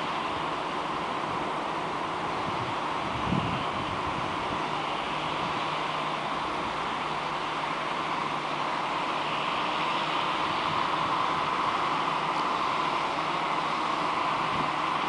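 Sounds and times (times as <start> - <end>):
train rolling slowly: 0.0 - 15.0.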